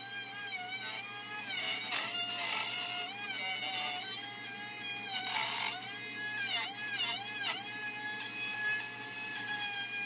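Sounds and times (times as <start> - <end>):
router cutting wood: 0.0 - 10.0.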